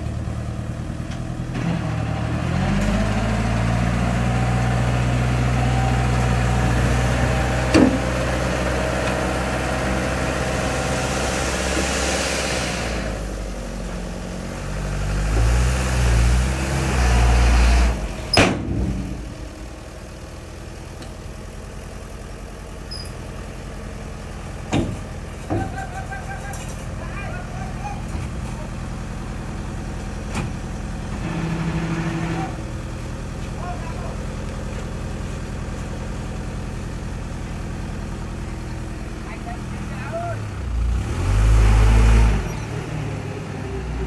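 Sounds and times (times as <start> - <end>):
diesel truck engine revving: 0.0 - 44.0.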